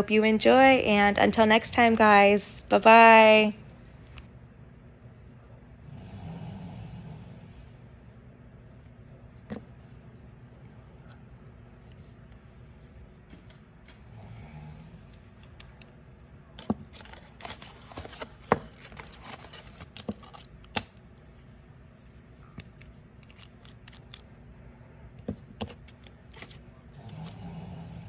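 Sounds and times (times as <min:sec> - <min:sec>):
faint low hum: 0:00.0 - 0:28.0.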